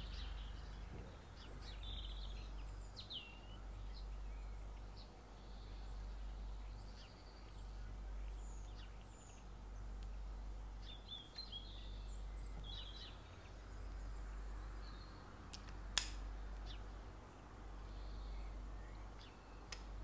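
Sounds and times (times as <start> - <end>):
faint birds chirping: 0.0 - 20.0
steady low hum: 0.0 - 20.0.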